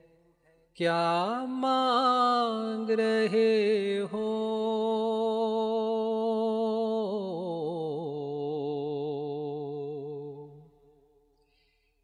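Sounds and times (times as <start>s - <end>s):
man singing unaccompanied: 0.8s - 10.6s.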